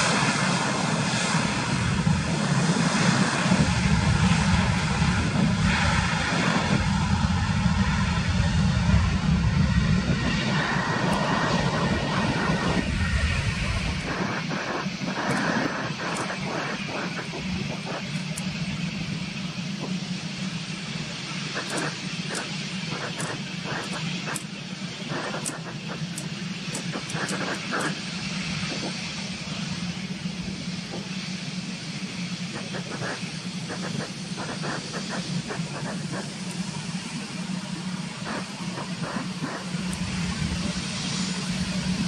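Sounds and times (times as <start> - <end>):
jet engines at takeoff: 0.0 - 42.0.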